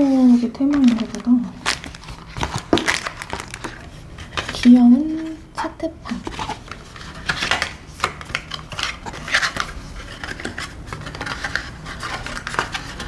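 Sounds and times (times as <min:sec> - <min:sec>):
paperboard rustling and scraping: 0:00.0 - 0:05.4, 0:06.1 - 0:13.0.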